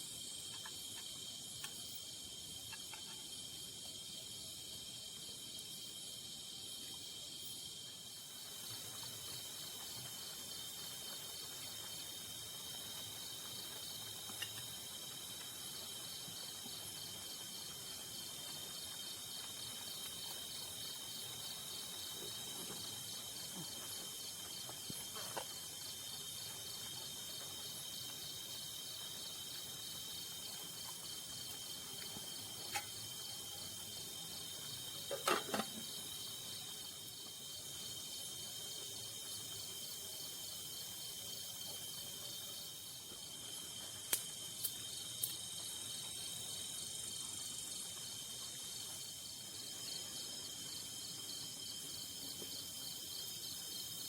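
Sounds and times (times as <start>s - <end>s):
crickets trilling: 0.0s - 54.0s
fast pulsing insect call: 0.0s - 54.0s.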